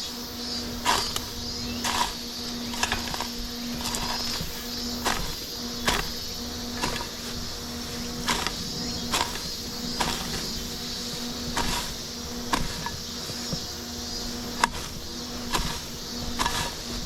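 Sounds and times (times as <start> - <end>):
footsteps through grass and brush: 0.0 - 17.0
small electric fans humming: 0.0 - 17.0.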